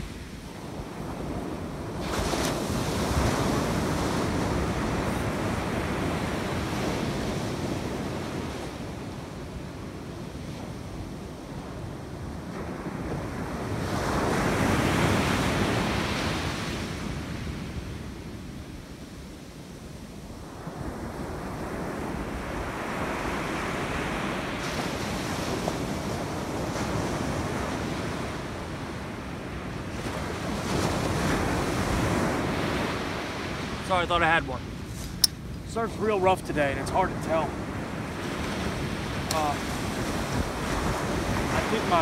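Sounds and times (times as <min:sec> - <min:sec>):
wind buffeting microphone: 0:00.0 - 0:18.8, 0:20.0 - 0:42.0
waves breaking on beach: 0:00.0 - 0:42.0.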